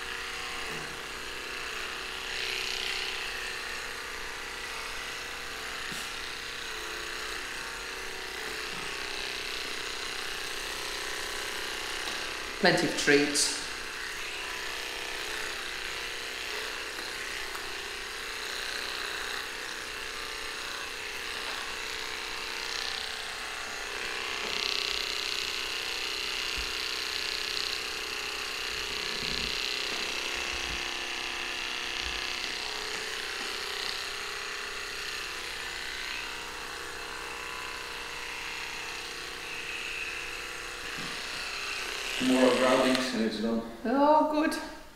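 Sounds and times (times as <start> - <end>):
electric dog clippers buzzing: 0.0 - 44.9.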